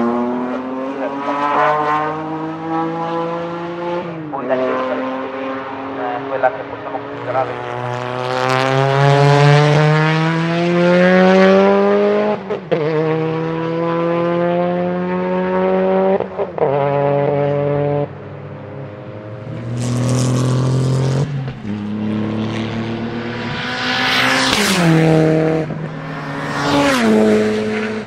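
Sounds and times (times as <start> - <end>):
race car engine at full throttle: 0.0 - 28.0.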